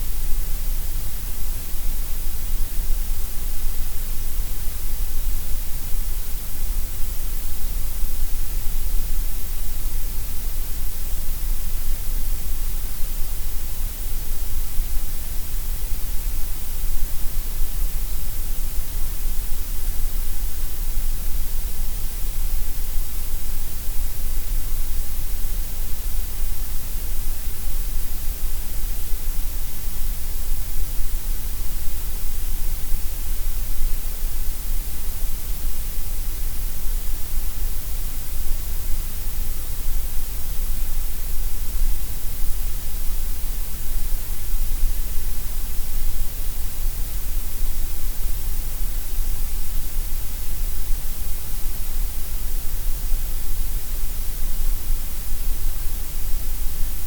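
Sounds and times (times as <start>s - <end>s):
steady gray noise hiss: 0.0s - 57.0s.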